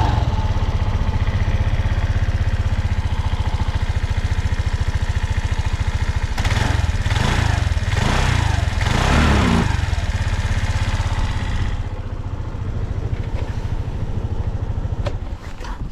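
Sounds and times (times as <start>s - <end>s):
scooter engine idling and revving: 0.0s - 15.9s.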